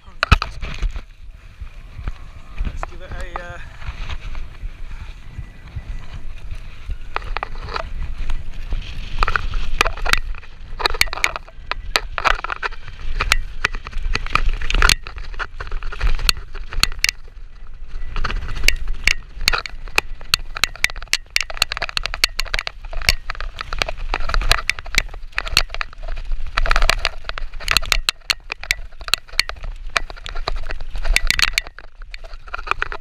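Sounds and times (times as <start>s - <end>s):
bike rattling over bumps: 0.0s - 33.0s
wind rumble on microphone: 0.0s - 33.0s.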